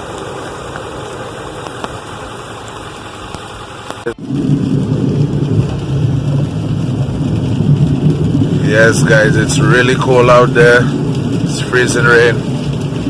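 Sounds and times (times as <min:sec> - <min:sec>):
deep engine rumble: 0:00.0 - 0:13.0
truck engine running: 0:00.0 - 0:13.0.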